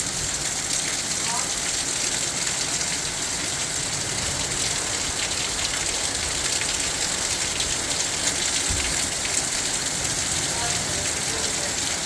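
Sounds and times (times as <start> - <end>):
heavy rain downpour: 0.0 - 12.0.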